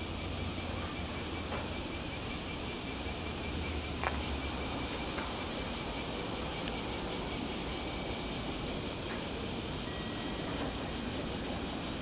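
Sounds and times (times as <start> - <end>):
outdoor background hum and hiss: 0.0 - 12.0.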